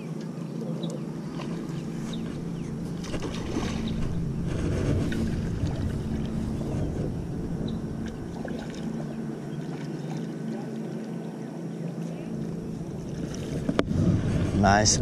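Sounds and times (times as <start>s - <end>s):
steady low hum: 0.0s - 15.0s
wind rumbling on microphone: 1.1s - 11.4s, 12.1s - 15.0s.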